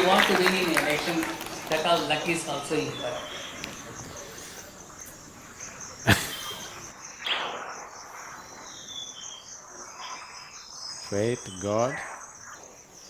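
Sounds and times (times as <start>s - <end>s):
faint bird chirps: 0.0s - 13.0s
high insect trill: 0.0s - 13.0s.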